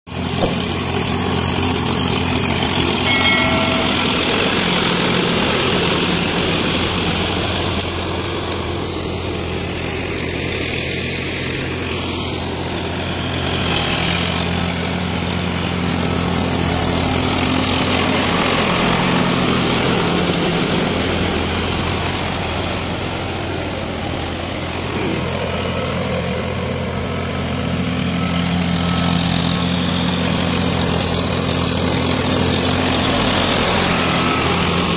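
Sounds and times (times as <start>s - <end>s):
diesel tractor engine running: 0.1s - 34.9s.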